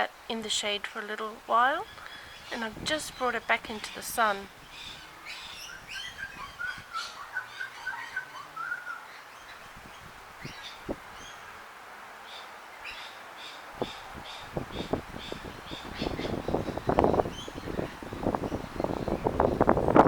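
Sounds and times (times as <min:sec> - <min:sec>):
small birds chirping: 0:00.5 - 0:11.6, 0:12.2 - 0:20.0.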